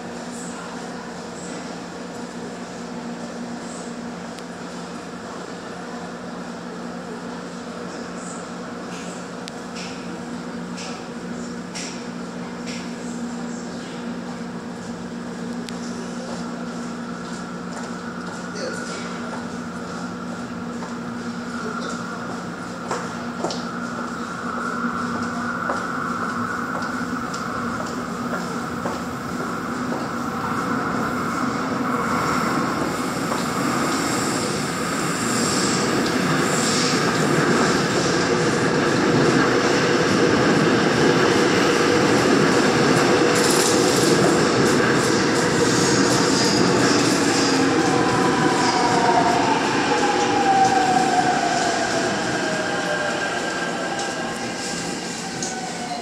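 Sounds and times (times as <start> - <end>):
train approaching through tunnel: 0.0 - 56.0.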